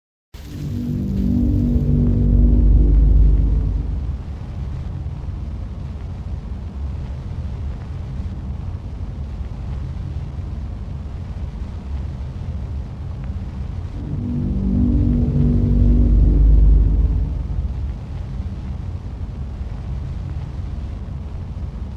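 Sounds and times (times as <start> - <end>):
low steady rumble: 0.4 - 21.9.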